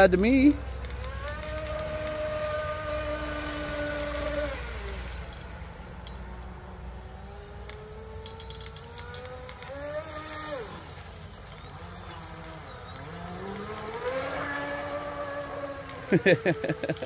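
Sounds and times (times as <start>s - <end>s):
model boat motor whining: 0.0s - 17.0s.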